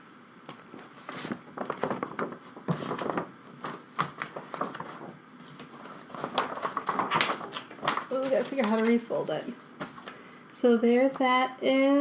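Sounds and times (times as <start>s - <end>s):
paper poster rustling and crackling: 0.4s - 10.3s.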